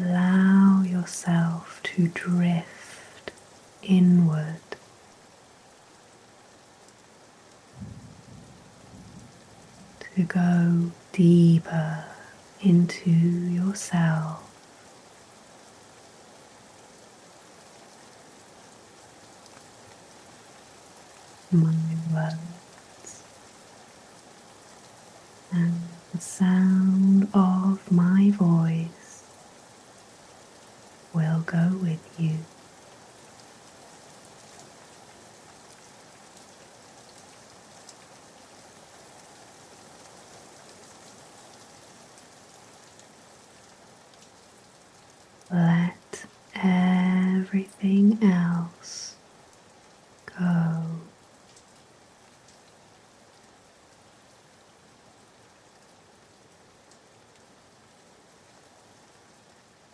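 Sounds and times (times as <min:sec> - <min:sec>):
soft steady rain: 0:00.0 - 0:59.9.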